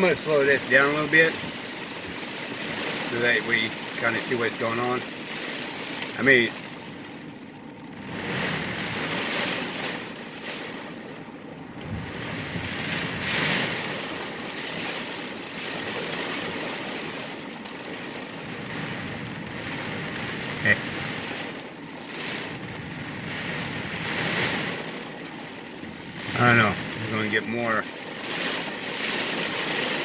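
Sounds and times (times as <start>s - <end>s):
heavy rain on a car: 0.0s - 30.0s.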